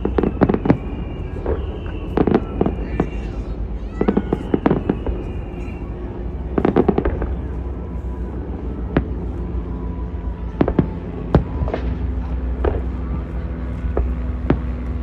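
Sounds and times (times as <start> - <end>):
fireworks bursting with bangs: 0.0 - 15.0
low rumble: 0.0 - 15.0.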